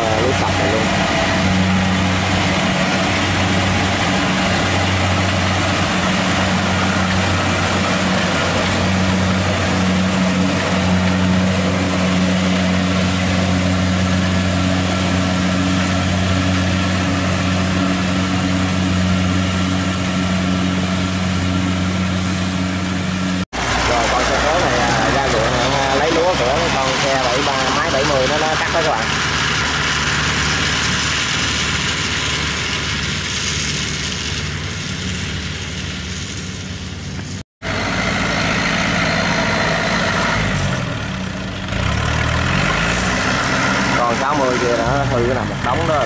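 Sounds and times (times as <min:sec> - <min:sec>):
combine harvester engine droning: 0:00.0 - 0:46.0.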